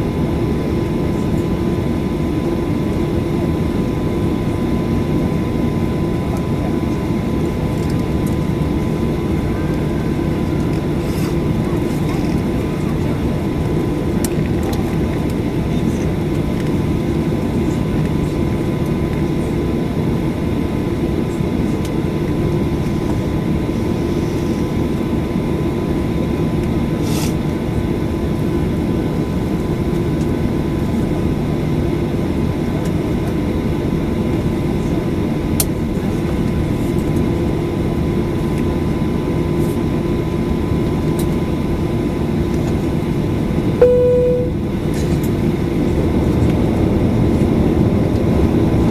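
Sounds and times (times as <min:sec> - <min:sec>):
airplane cabin jet engine drone: 0:00.0 - 0:48.9.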